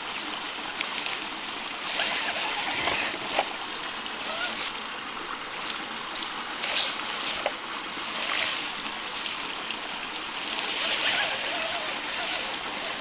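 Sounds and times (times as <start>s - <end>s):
creek water rushing: 0.0s - 13.0s
thin high whine: 0.0s - 13.0s.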